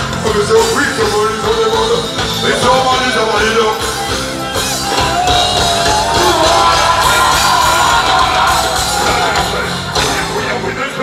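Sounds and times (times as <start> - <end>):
live pop music with heavy bass: 0.0 - 11.0
man singing and shouting: 0.0 - 11.0.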